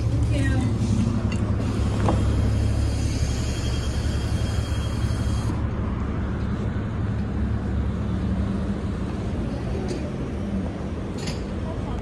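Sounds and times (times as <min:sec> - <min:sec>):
bus engine idling: 0:00.0 - 0:11.9.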